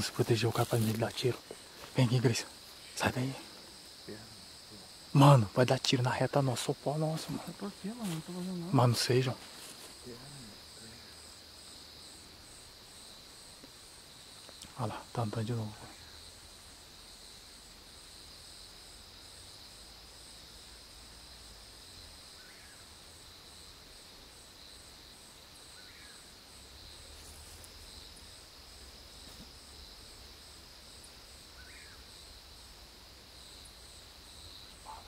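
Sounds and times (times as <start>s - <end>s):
faint short insect calls: 0.0s - 35.0s
insects droning: 0.0s - 35.0s
rapid insect chirping: 0.0s - 35.0s.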